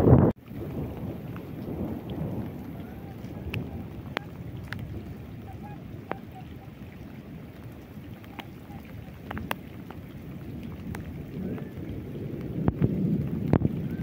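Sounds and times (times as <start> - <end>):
wind rumble on microphone: 0.0 - 14.0
raindrops ticking: 0.3 - 14.0.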